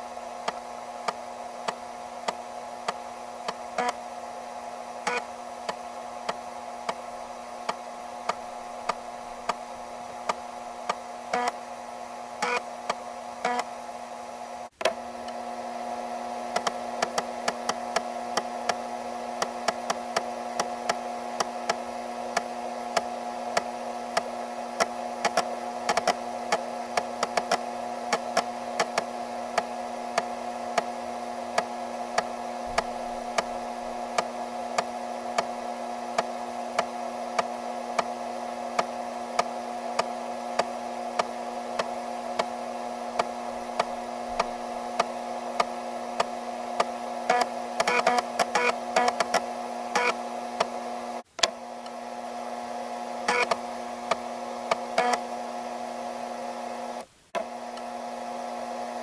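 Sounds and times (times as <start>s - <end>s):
floppy disk drive motor whir: 0.0s - 59.0s.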